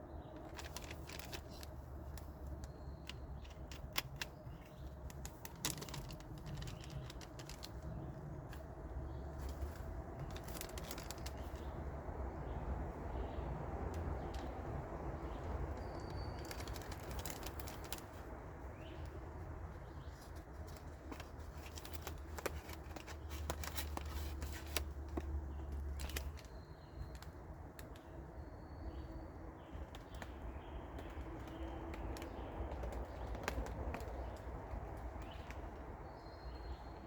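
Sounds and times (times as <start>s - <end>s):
light clicks and taps: 0.3s - 11.9s, 13.7s - 28.4s, 29.0s - 36.0s.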